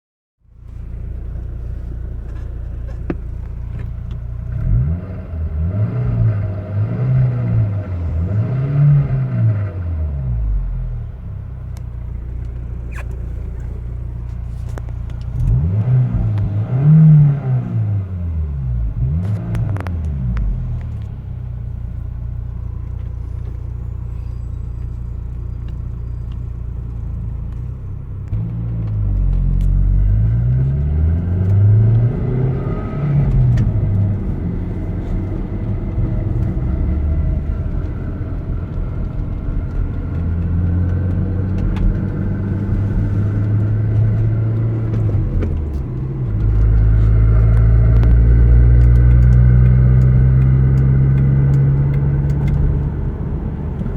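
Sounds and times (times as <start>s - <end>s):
car engine through loud exhaust: 0.5s - 53.9s.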